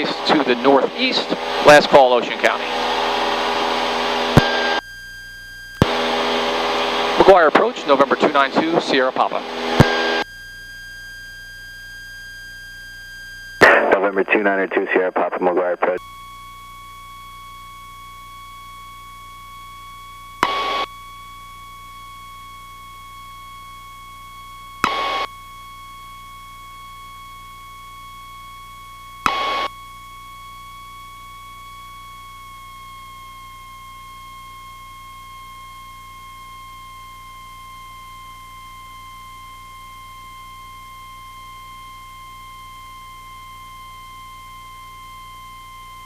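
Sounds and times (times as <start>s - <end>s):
high electrical whine: 0.0s - 46.0s.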